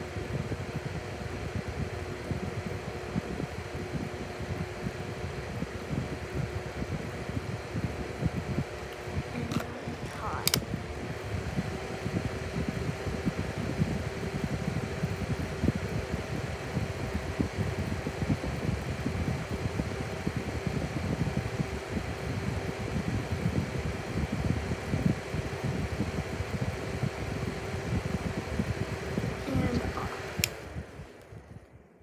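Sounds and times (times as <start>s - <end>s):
box fan motor hum: 0.0s - 32.0s.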